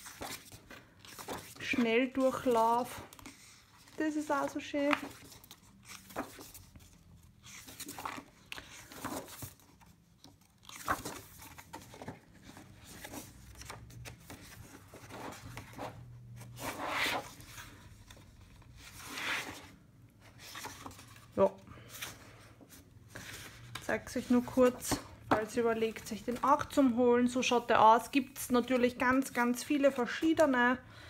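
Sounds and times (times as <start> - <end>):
paper pages rustling: 0.0 - 26.9.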